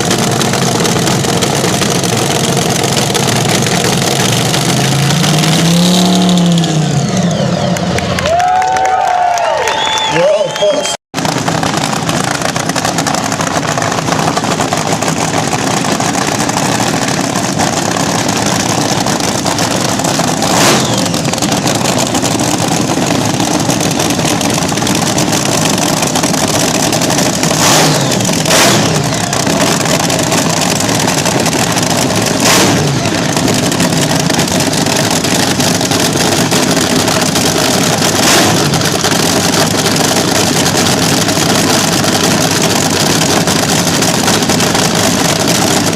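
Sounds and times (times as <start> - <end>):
drag racer engine revving: 0.0 - 8.3, 10.6 - 45.9.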